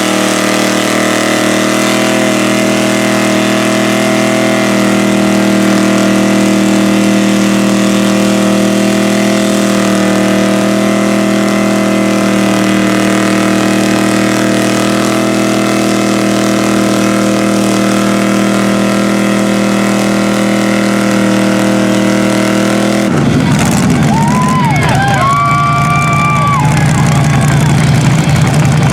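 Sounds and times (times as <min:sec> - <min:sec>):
vehicle engine idling: 0:00.0 - 0:28.9.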